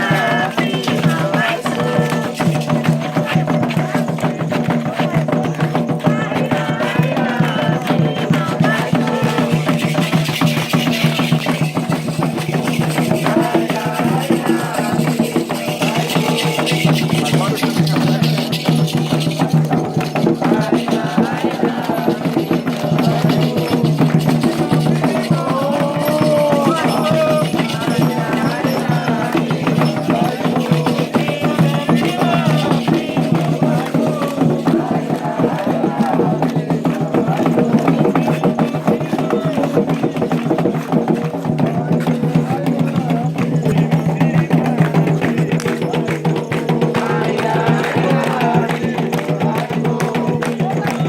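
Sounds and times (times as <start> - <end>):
driving percussion beat: 0.0 - 51.0
drums and rattles: 0.0 - 51.0
voices singing: 0.0 - 51.0.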